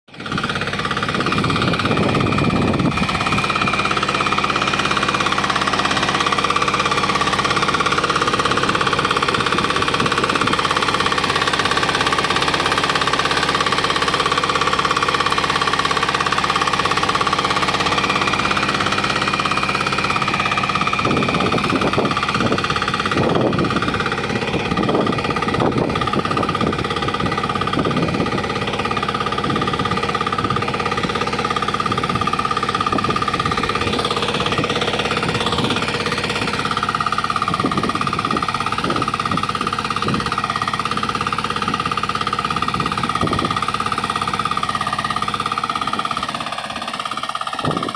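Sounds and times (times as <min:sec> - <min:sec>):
diesel tiller engine clattering: 0:00.1 - 0:47.9.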